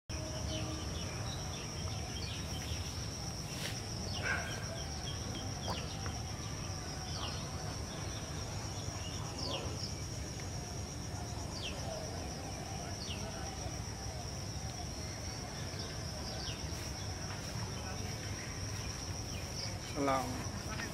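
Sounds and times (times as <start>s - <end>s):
high-pitched insect trill: 0.1s - 20.9s.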